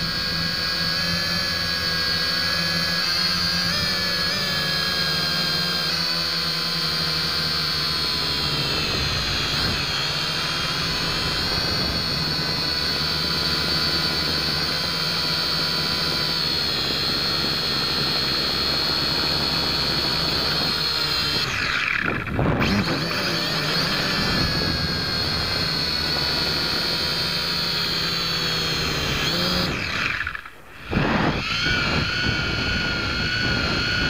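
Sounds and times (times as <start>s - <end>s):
toy drone motors whining: 0.0s - 34.0s.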